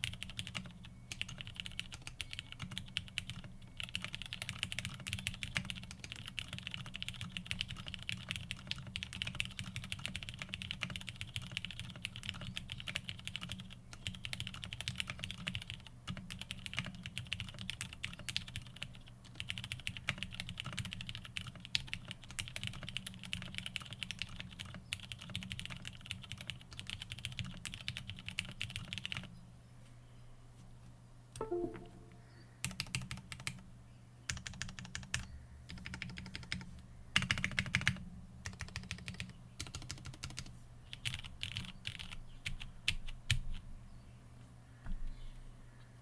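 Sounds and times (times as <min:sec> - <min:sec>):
mechanical keyboard typing: 0:00.0 - 0:29.3, 0:32.6 - 0:33.6, 0:34.3 - 0:36.6, 0:37.2 - 0:43.5.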